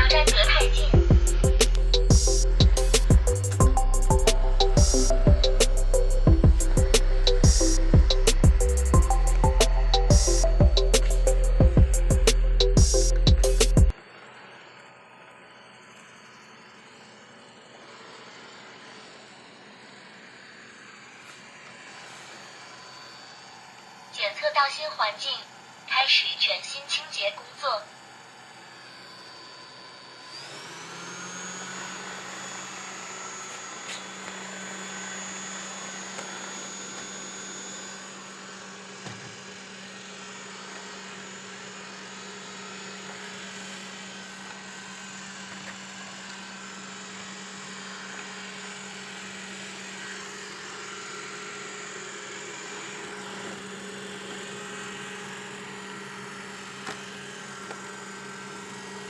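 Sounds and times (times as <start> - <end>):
robot vacuum motor hum and whine: 0.0 - 59.0.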